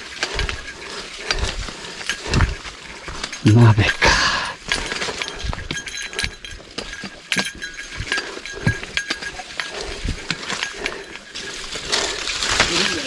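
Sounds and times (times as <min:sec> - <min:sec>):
footsteps on stony trail: 0:00.0 - 0:13.0.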